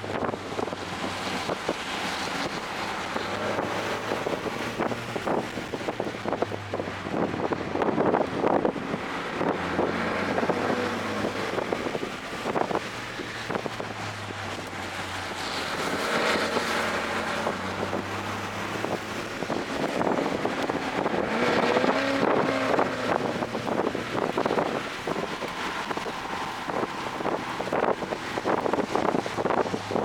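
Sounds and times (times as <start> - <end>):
wind buffeting microphone: 0.0 - 30.0
car engine revving hard: 0.1 - 30.0.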